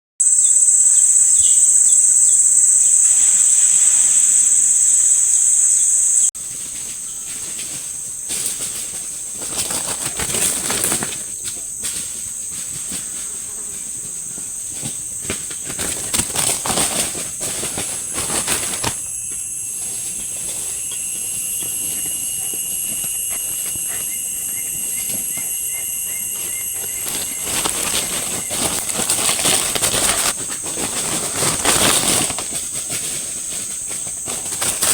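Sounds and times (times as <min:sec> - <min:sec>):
insects buzzing trill: 0:00.2 - 0:34.9
lower insect tone: 0:00.2 - 0:34.9.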